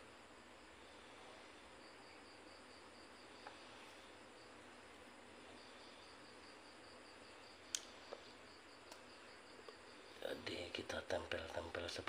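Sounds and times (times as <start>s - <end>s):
cricket chirping: 0.0s - 12.0s
low hiss: 0.0s - 12.0s.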